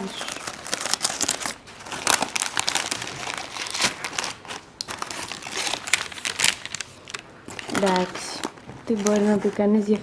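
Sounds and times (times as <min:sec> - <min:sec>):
paper wrapper crinkling: 0:00.0 - 0:10.0.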